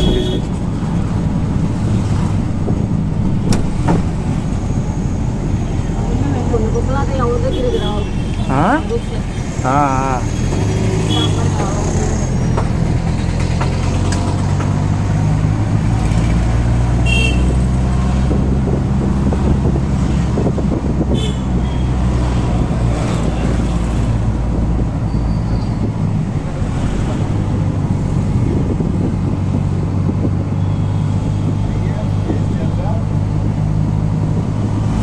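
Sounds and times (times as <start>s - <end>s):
auto-rickshaw engine running: 0.0s - 35.0s
road noise: 0.0s - 35.0s.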